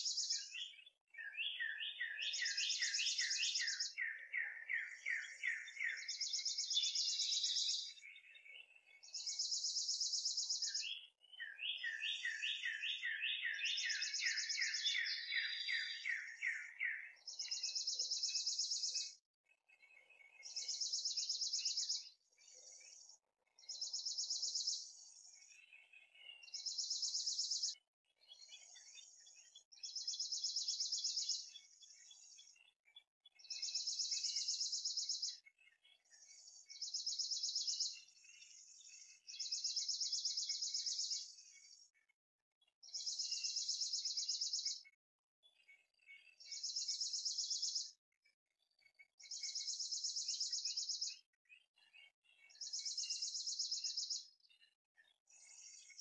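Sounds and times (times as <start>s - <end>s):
soft bird chirps: 0.0s - 42.2s, 42.8s - 48.0s, 48.7s - 56.0s.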